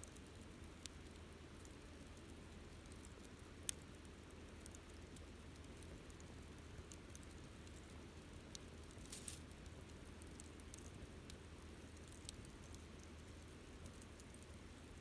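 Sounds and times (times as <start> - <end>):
campfire crackling: 0.2 - 15.0.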